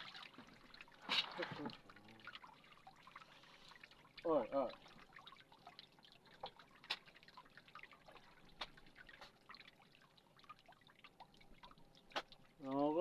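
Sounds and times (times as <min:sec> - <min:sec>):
water dripping and splashing: 0:00.0 - 0:13.0.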